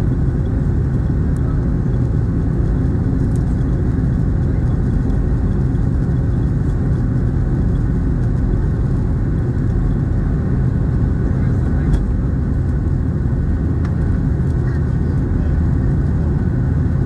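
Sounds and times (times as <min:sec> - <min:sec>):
aircraft rolling on taxiway: 0:00.0 - 0:17.0
jet engines low rumble: 0:00.0 - 0:17.0.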